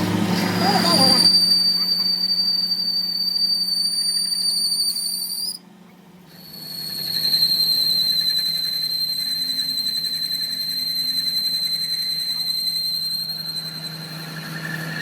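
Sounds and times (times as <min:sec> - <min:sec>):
high-pitched machinery whine: 0:00.0 - 0:05.6, 0:06.3 - 0:15.0.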